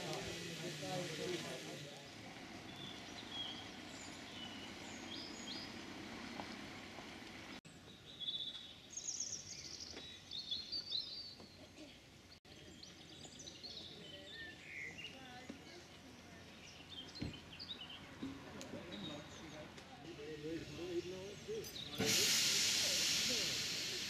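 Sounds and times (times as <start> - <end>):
songbirds singing and chirping: 1.3 - 22.1.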